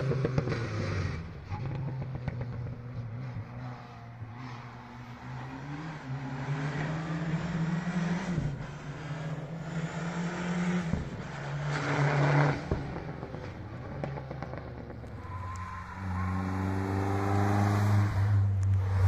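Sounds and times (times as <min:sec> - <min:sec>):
car engine passing close: 0:00.0 - 0:19.0
rally car engines at full throttle: 0:00.0 - 0:19.0.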